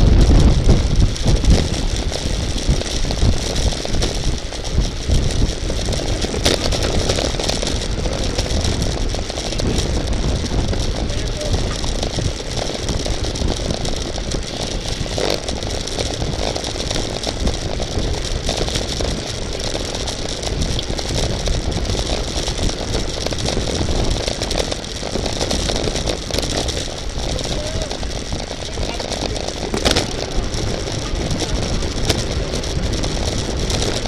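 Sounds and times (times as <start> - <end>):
bicycle road and drivetrain noise: 0.0 - 34.0
wind on microphone: 0.0 - 34.0.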